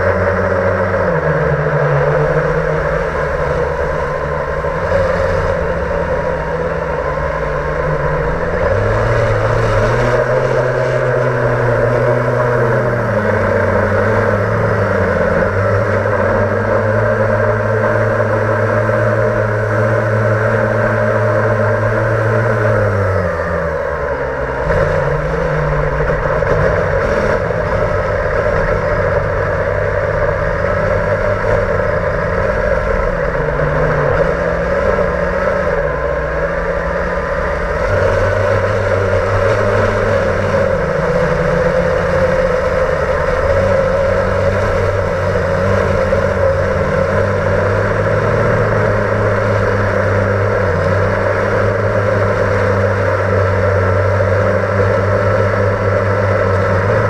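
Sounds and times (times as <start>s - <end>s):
quadcopter propellers whirring: 0.0s - 57.0s.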